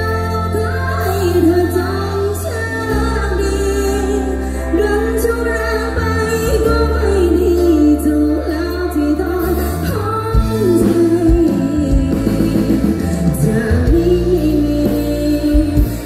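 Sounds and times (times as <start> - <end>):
band playing: 0.0 - 16.0
woman singing into microphone: 0.0 - 16.0.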